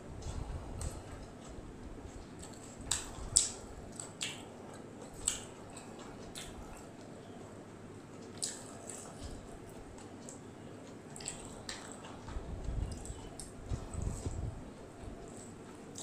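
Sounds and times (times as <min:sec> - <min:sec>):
person chewing food: 0:00.2 - 0:16.0.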